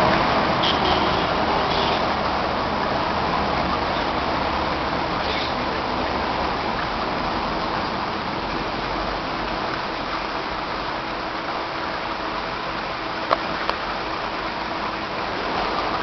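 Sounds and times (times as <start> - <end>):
aquarium pumps running: 0.0 - 16.0
water flowing through tank: 0.0 - 16.0.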